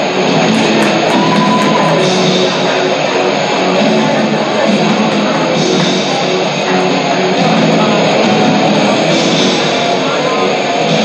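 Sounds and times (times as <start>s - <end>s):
rock music with electric guitar: 0.0s - 11.0s.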